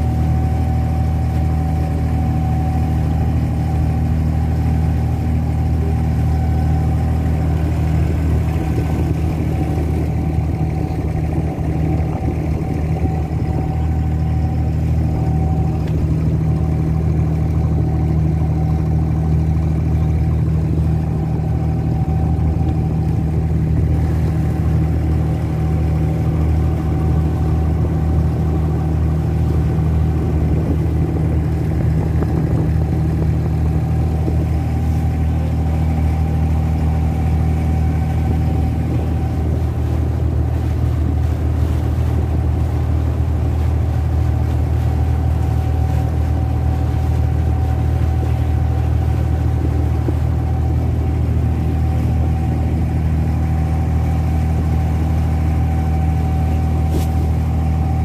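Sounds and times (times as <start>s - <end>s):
boat diesel engine droning: 0.0s - 58.0s.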